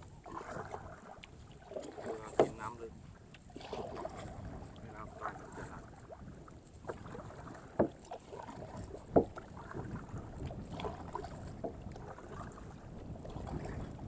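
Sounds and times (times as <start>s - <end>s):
paddle strokes through water: 0.0s - 14.0s
paddle knocking on kayak: 0.3s - 6.2s, 6.8s - 14.0s.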